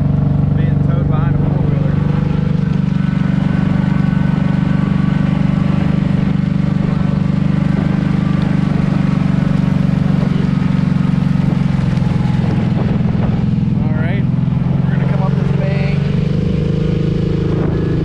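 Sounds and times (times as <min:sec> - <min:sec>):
atv engine running steadily: 0:00.0 - 0:18.0.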